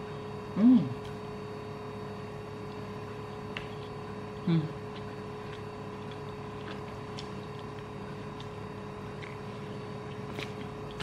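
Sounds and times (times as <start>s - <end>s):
background hum with held tones: 0.0s - 11.0s.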